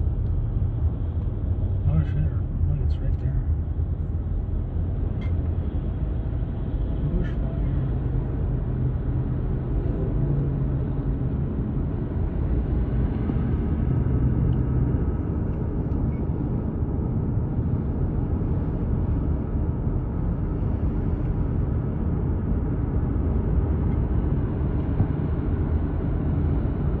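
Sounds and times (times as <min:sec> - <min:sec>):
car driving on highway: 0:00.0 - 0:27.0.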